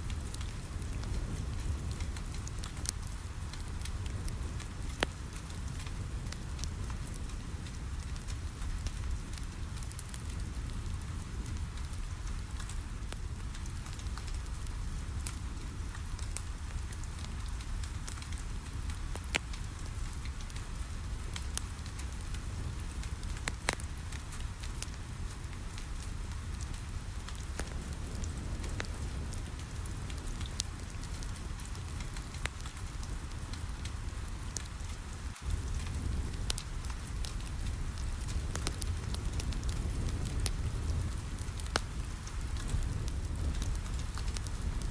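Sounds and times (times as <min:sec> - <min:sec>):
rain on a window: 0:00.0 - 0:44.9
wood fire crackling: 0:00.0 - 0:44.9.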